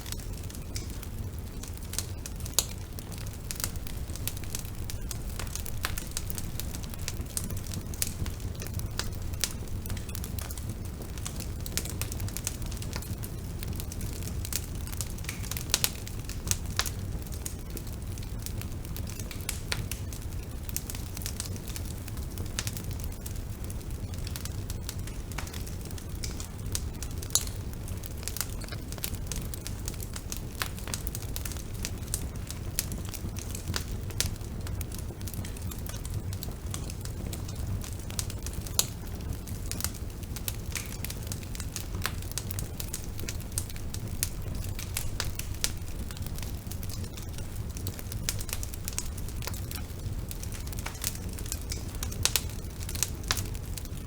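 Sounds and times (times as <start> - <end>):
burning wood crackling and popping: 0.0 - 54.0
low rumble of flames: 0.0 - 54.0.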